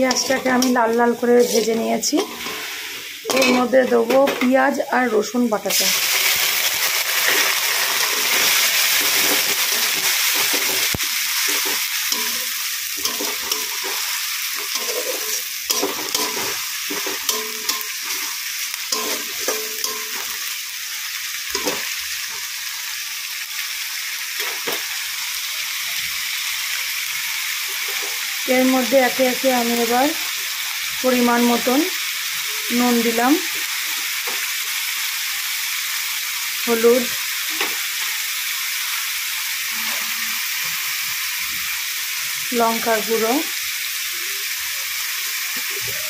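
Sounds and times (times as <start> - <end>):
paste sizzling in oil: 0.0 - 3.8, 5.2 - 46.0.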